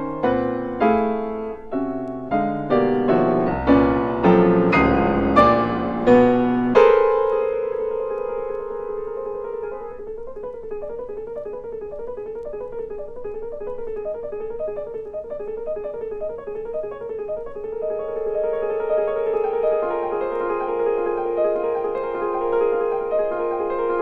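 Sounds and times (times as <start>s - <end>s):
solo piano piece: 0.0s - 24.0s.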